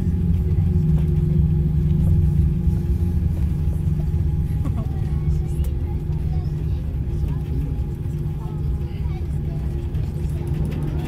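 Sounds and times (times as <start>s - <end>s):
aircraft engines low rumble: 0.0s - 11.0s
steady cabin hum: 0.0s - 11.0s.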